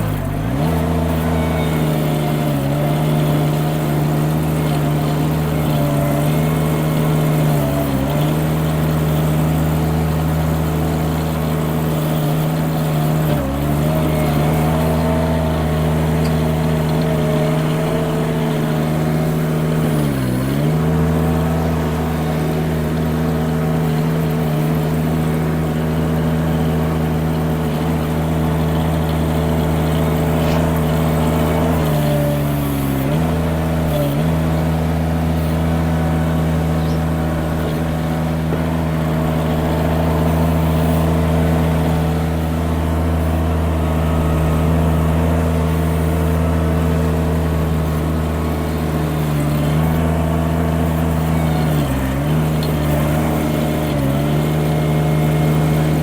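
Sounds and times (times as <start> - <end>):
mini skid steer engine running: 0.0 - 56.0.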